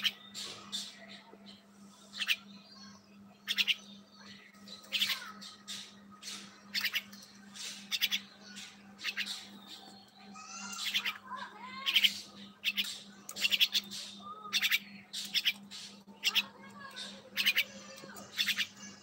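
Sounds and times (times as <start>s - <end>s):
caged birds chirping: 0.0s - 19.0s.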